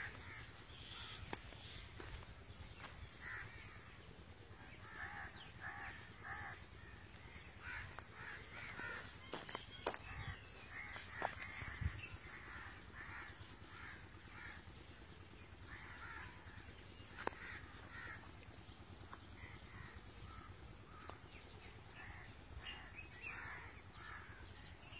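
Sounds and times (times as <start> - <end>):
birds rasping calls: 0.0 - 24.9.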